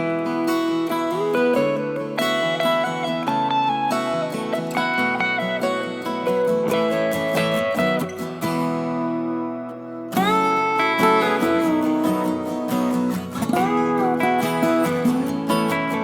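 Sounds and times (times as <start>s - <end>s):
acoustic guitar tune: 0.0s - 16.0s.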